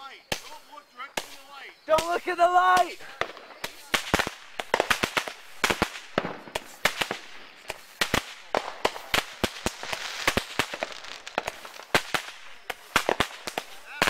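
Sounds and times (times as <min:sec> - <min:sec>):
fireworks cracking and popping: 0:00.2 - 0:14.0.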